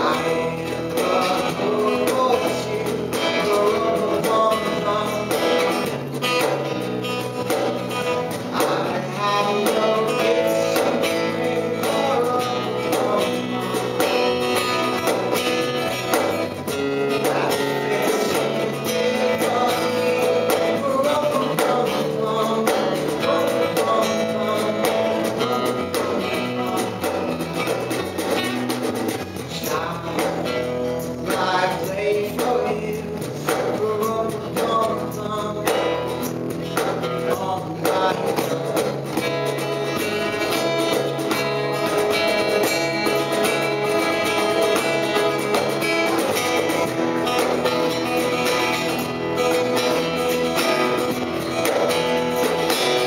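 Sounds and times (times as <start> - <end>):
live band with guitars: 0.0 - 53.0.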